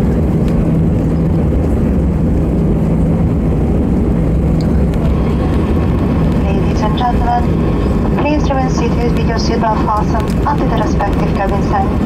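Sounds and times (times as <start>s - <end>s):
aircraft engines and wheels rumbling: 0.0s - 12.0s
low steady hum: 0.0s - 12.0s.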